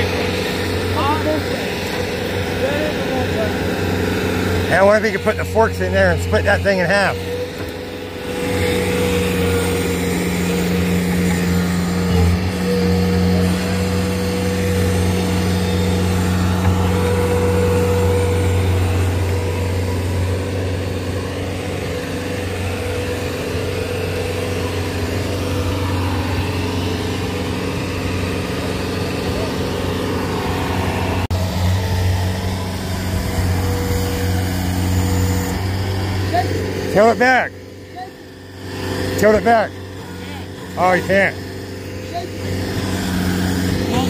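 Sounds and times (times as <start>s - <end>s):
track loader diesel engine running: 0.0s - 44.0s.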